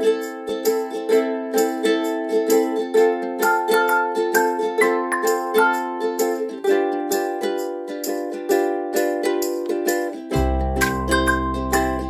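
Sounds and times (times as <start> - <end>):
strummed plucked strings tune: 0.0 - 12.0.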